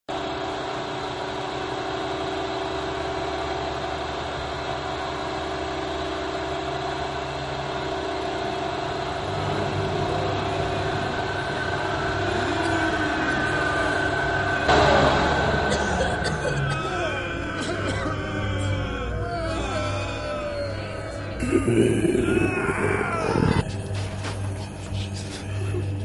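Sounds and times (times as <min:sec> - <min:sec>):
rumbling drone with held tones: 0:00.1 - 0:26.0.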